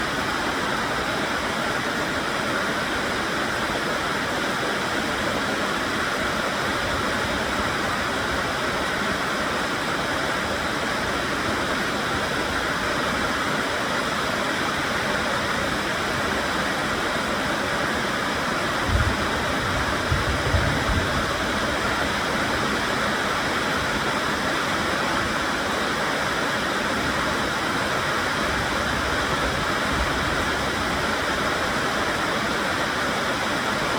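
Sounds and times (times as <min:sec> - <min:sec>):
heavy rainfall: 0:00.0 - 0:33.9.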